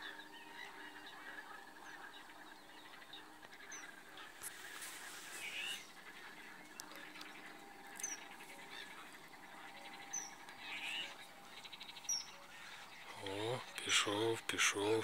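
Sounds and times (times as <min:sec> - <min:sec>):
birds chirping: 0:00.0 - 0:15.0
rapid rattling bird calls: 0:00.0 - 0:15.0.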